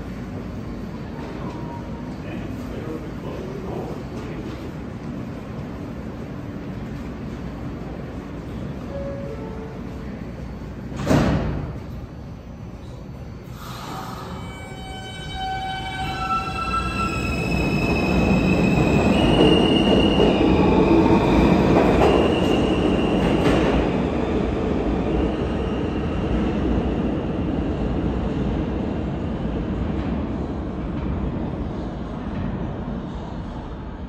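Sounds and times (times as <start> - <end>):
subway train motors whining: 0.0 - 34.0.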